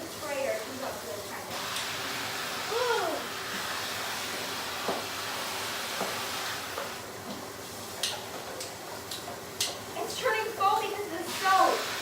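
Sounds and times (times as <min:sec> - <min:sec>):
sink sprayer spraying water: 0:00.0 - 0:08.0, 0:10.0 - 0:12.0.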